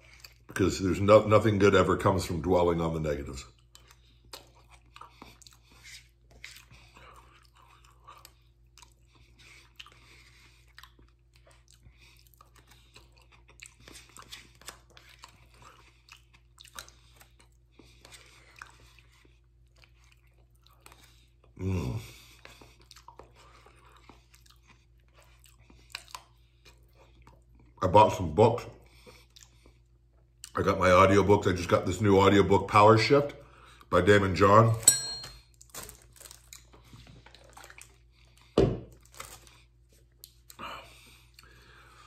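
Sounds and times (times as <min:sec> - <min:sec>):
man chewing food: 0:00.0 - 0:01.2, 0:03.2 - 0:30.7, 0:33.4 - 0:33.9, 0:35.2 - 0:42.0.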